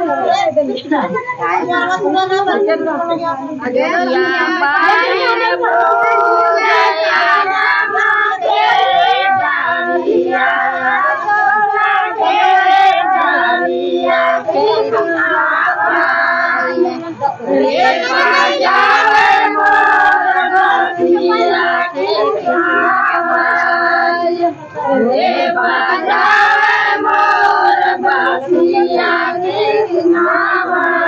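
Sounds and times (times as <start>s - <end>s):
women and girls singing folk song: 0.0s - 31.0s.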